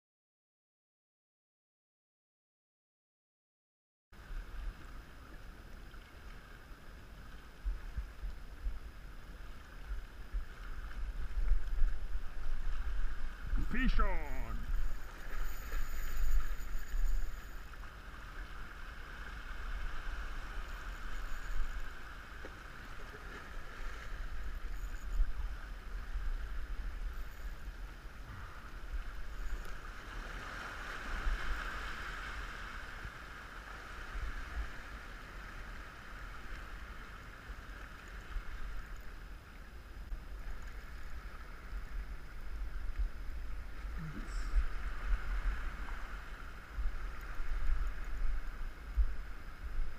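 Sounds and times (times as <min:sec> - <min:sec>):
small waves breaking on rocks: 0:04.2 - 0:49.9.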